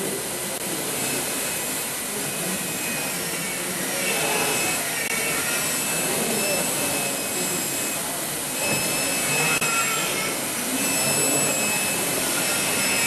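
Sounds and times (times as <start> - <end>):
dental drill hiss and whine: 0.0 - 13.0.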